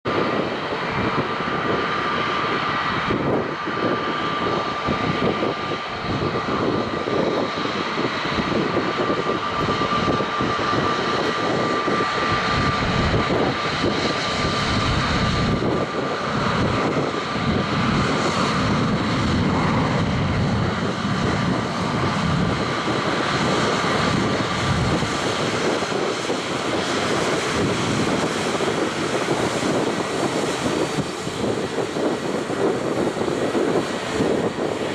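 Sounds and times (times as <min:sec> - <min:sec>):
jet airliner taxiing: 0:00.1 - 0:34.9.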